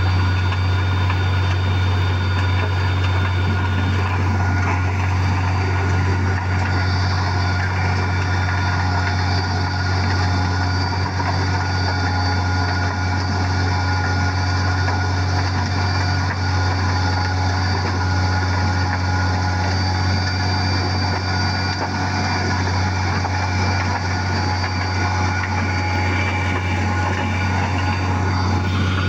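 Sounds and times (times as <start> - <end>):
diesel machinery engine drone: 0.0 - 29.0
high machine whines: 0.0 - 29.0.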